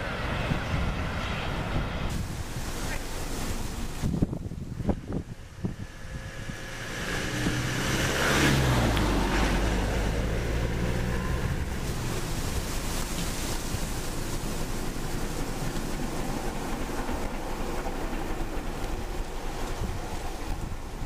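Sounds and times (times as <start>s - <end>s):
vehicle passing by: 0.0s - 21.0s
wind noise on microphone: 0.0s - 21.0s.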